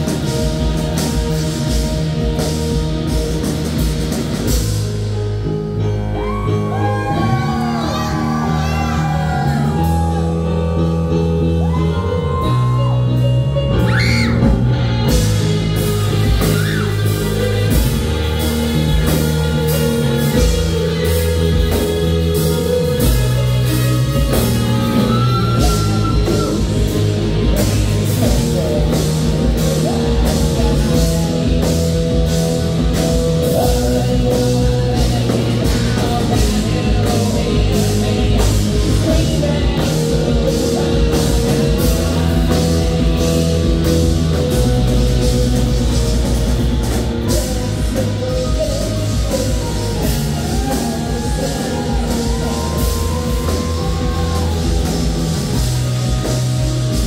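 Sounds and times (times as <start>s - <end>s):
drum kit beat: 0.0s - 11.0s, 13.7s - 57.0s
bass guitar: 0.0s - 57.0s
electric guitar: 0.0s - 57.0s.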